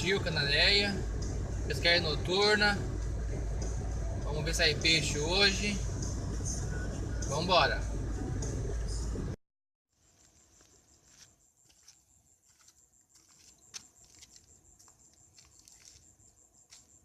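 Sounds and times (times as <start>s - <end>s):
crickets trilling: 0.0s - 8.9s, 10.0s - 17.0s.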